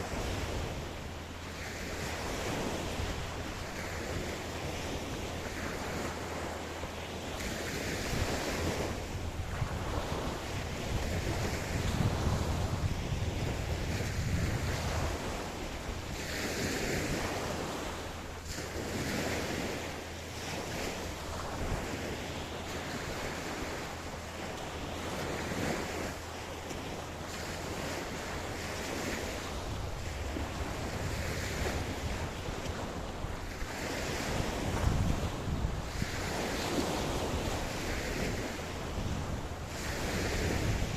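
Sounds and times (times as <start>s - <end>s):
ocean waves breaking on beach: 0.0s - 40.9s
wind rumble on microphone: 0.0s - 40.9s.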